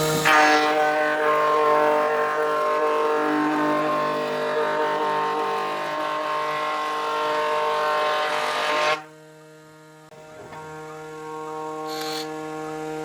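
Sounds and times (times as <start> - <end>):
machine motor whining: 0.0 - 13.0.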